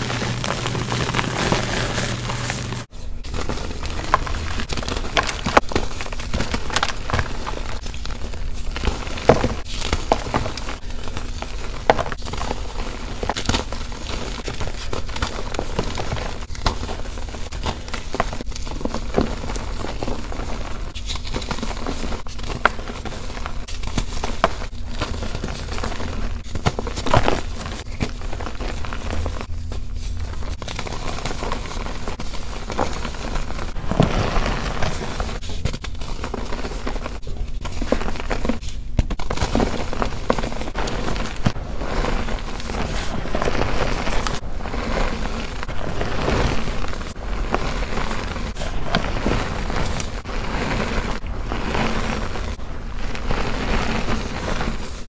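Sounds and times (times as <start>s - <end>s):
chalk blocks crunching by hand: 0.0s - 55.0s
steady low hum: 0.0s - 55.0s.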